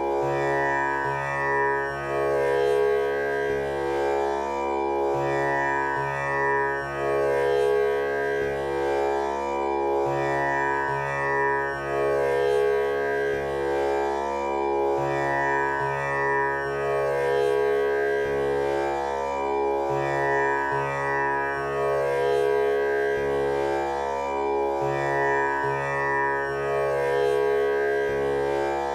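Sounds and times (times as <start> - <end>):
tanpura drone: 0.0 - 28.9.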